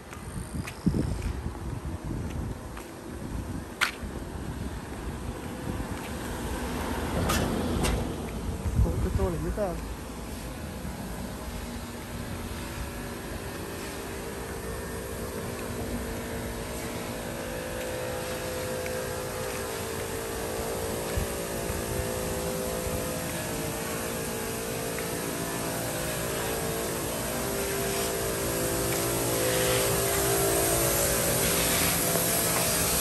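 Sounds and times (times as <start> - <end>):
motor engine droning: 2.1 - 33.0.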